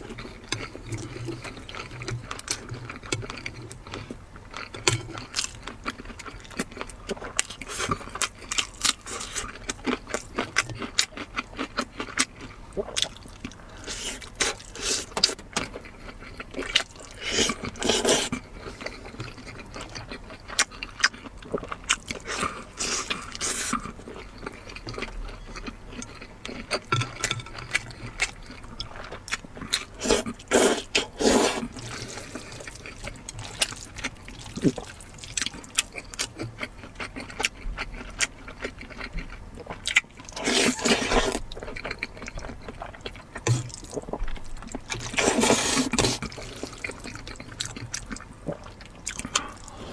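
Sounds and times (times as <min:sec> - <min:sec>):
wet chewing and lip smacking: 0:04.6 - 0:49.8.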